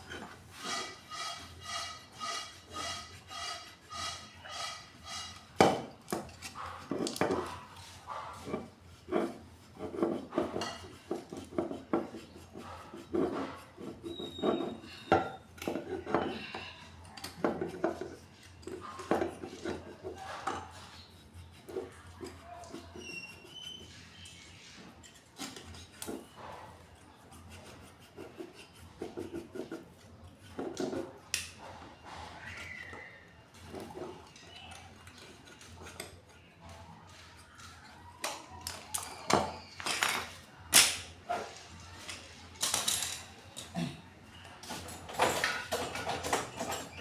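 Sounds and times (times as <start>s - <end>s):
knife scraping metal: 0.0s - 43.2s, 44.6s - 47.0s.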